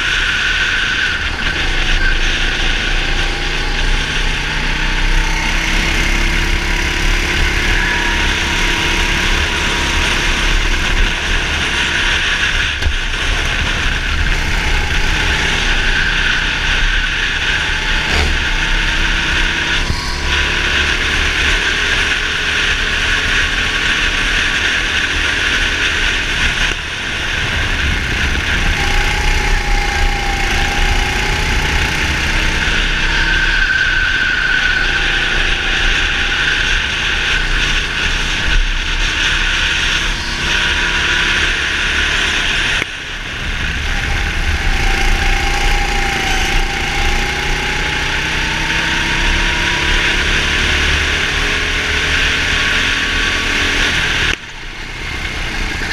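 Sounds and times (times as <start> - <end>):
racing kart engine revving: 0.0 - 55.9.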